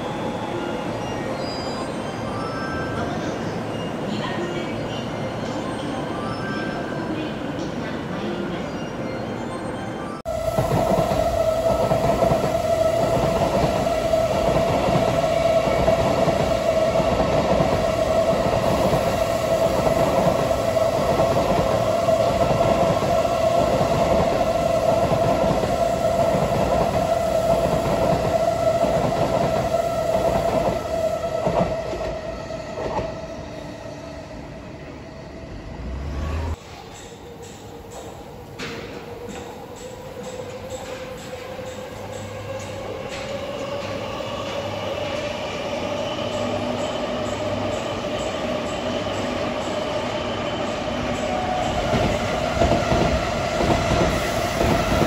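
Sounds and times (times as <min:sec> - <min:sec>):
train whine: 0:09.2 - 0:55.0
train rushing past: 0:10.3 - 0:55.0.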